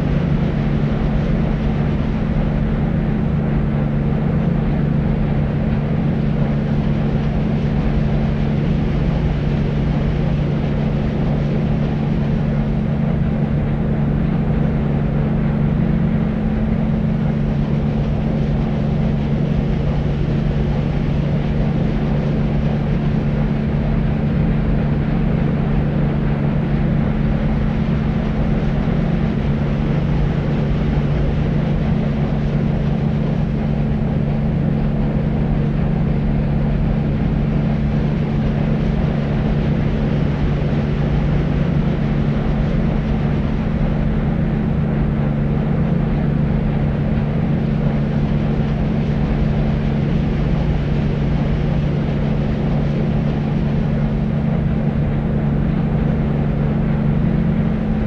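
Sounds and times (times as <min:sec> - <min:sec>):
deep white noise: 0:00.0 - 0:58.0.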